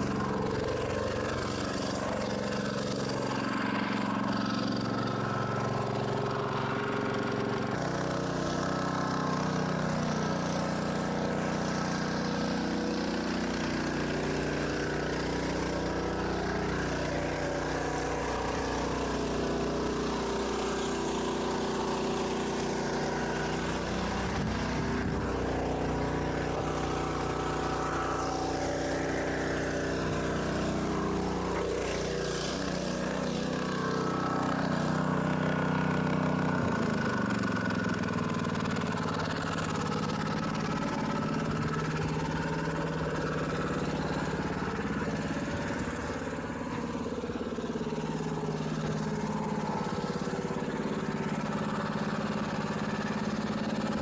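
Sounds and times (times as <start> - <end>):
small engine idling: 0.0 - 54.0.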